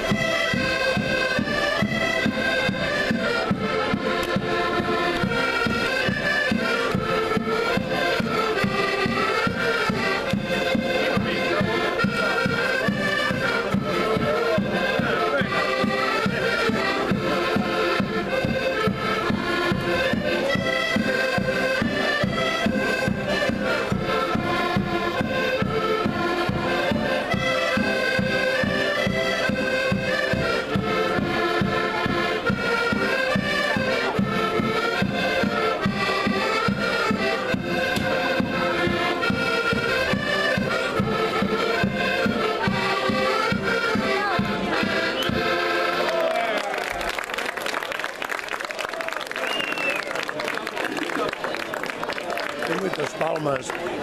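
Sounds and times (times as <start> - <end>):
accordions playing folk tune: 0.0 - 54.0.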